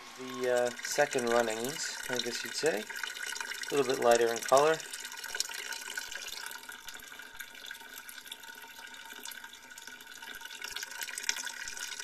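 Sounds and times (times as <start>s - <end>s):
liquid pouring into a jug: 0.0s - 12.0s.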